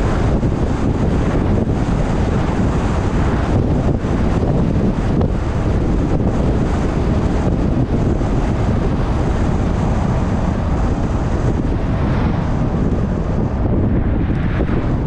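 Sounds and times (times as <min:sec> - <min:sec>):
car road noise: 0:00.0 - 0:15.0
wind blowing over microphone: 0:00.0 - 0:15.0.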